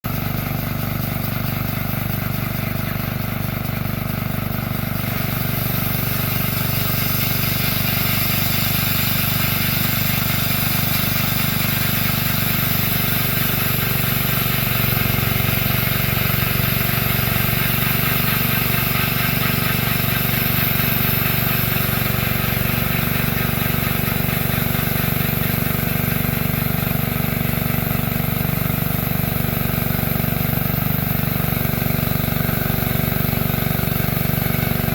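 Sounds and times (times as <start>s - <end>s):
bandsaw mill engine running: 0.0s - 34.9s.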